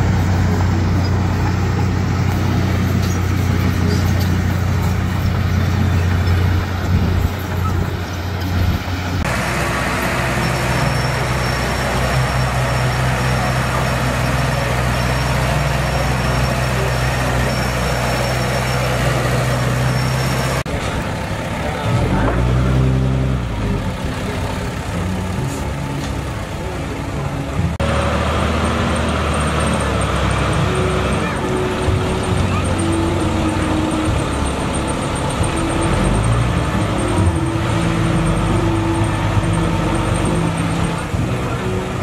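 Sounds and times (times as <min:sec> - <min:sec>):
diesel earthmoving machinery engine: 0:00.0 - 0:42.0.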